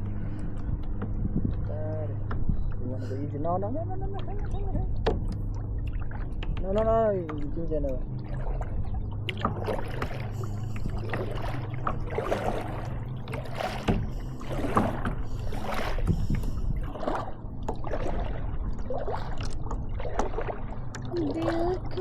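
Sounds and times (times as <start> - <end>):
low steady hum: 0.0 - 22.0
kayak paddle splashing: 4.3 - 22.0.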